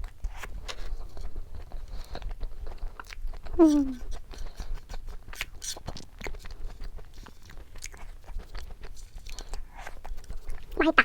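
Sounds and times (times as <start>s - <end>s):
crunching and chewing snack: 0.0s - 11.0s.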